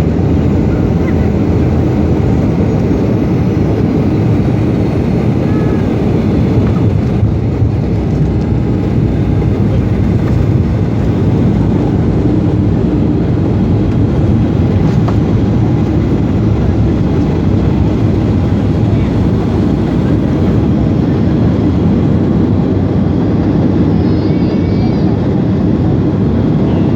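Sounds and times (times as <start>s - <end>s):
airliner cabin engine rumble: 0.0s - 26.9s.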